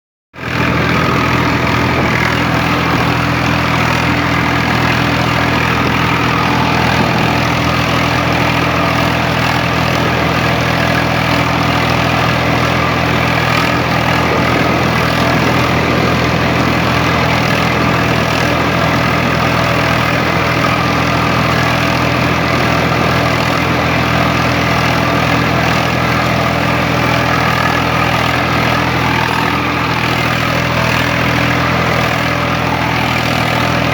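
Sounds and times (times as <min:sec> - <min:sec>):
tractor diesel engine running: 0:00.3 - 0:33.9.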